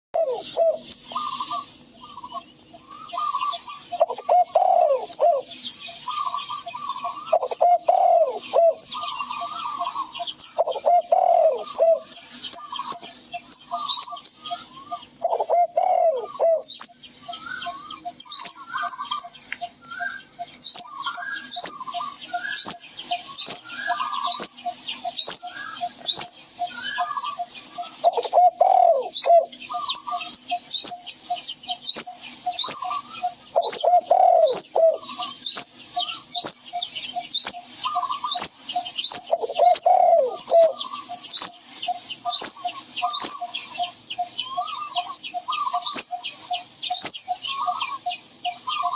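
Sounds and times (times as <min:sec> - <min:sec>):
lower longer bird call: 0:00.2 - 0:05.5, 0:06.1 - 0:31.5, 0:32.4 - 0:48.9
birds chirping in chorus: 0:00.2 - 0:48.9.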